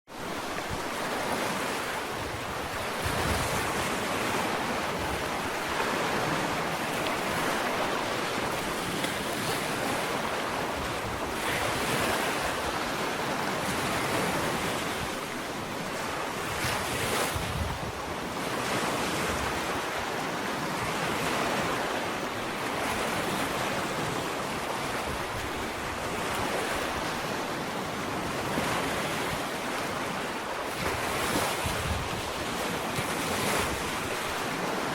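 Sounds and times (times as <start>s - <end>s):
ocean waves breaking on beach: 0.1s - 34.9s
wind on microphone: 0.2s - 34.9s.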